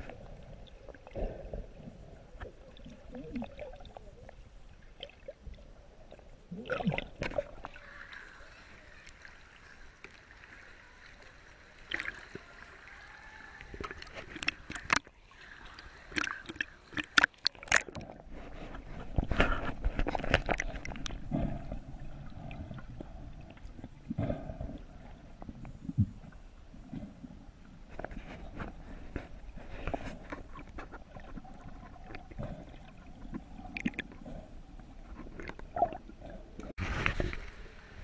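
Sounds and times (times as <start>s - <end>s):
water sloshing and gurgling: 0.0s - 38.0s.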